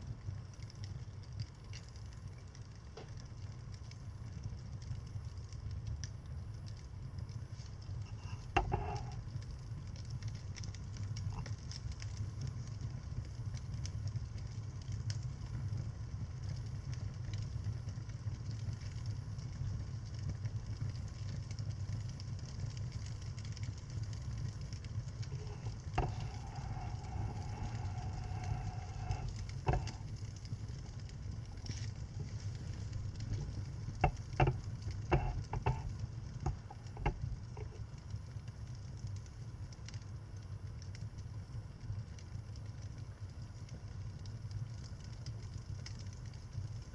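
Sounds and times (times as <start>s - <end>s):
fire crackling in fireplace: 0.0s - 46.9s.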